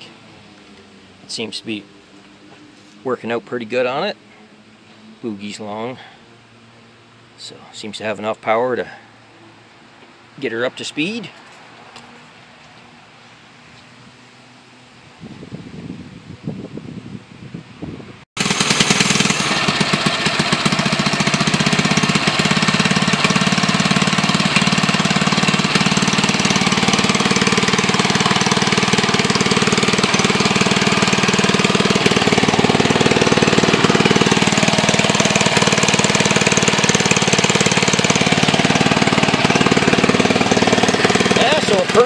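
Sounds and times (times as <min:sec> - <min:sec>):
small engine running steadily: 0:00.0 - 0:14.8, 0:18.4 - 0:42.0.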